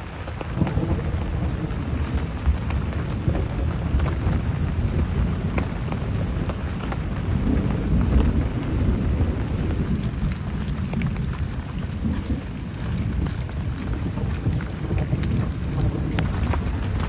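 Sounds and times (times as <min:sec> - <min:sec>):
heavy rain falling: 0:00.0 - 0:17.0
sharp raindrop impacts: 0:00.0 - 0:17.0.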